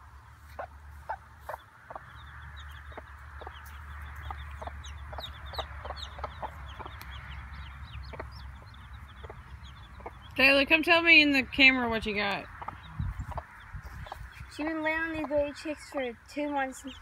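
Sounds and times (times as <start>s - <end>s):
chicks peeping: 0.1s - 17.0s
hen clucking: 0.4s - 16.1s.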